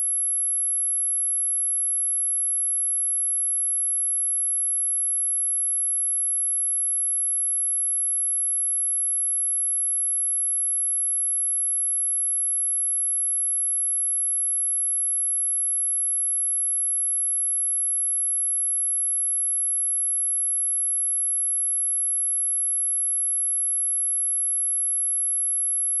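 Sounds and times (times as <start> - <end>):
high-pitched sine-wave test tone: 0.0 - 26.0.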